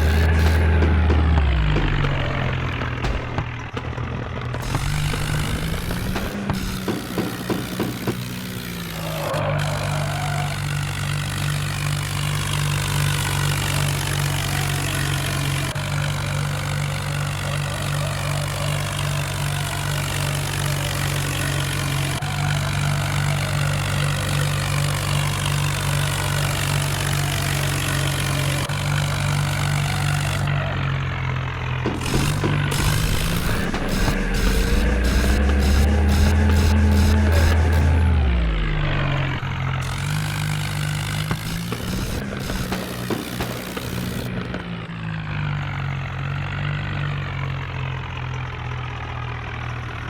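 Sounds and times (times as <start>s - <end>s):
vehicle engine humming: 0.0s - 50.0s.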